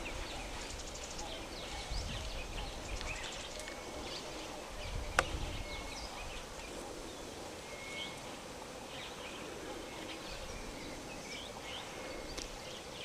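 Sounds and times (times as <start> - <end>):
insects buzzing and trilling: 0.0 - 13.0
small birds chirping: 0.0 - 13.0.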